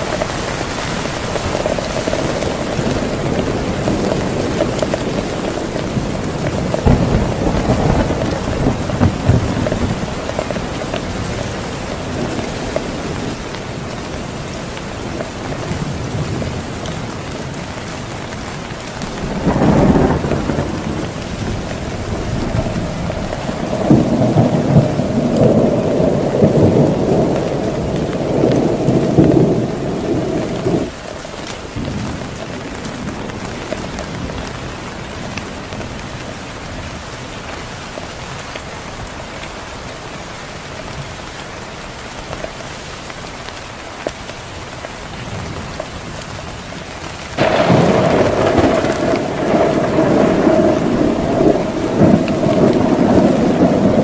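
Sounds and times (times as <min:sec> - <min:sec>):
thunder rumbling: 0:00.0 - 0:37.5, 0:45.2 - 0:54.0
heavy rain: 0:00.0 - 0:54.0.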